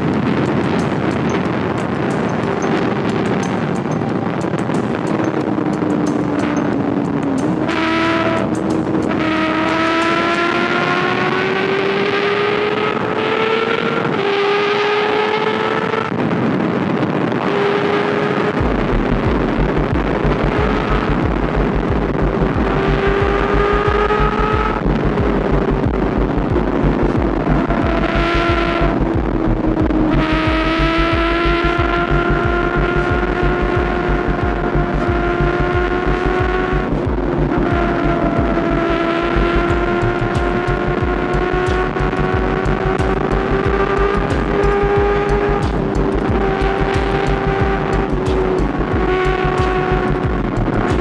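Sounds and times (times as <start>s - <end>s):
motorcycle engine changing gear: 0.0s - 51.0s
wind rushing on microphone: 0.0s - 51.0s.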